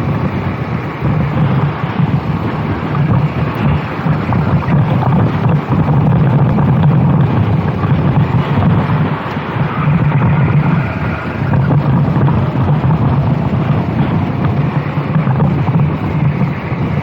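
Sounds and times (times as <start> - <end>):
kart engine running hard: 0.0 - 17.0
wind buffeting microphone: 0.0 - 17.0.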